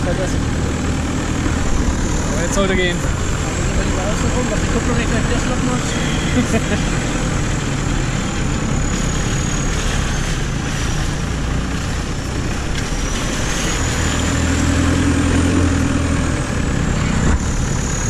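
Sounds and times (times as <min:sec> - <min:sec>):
buggy engine running: 0:00.0 - 0:18.0.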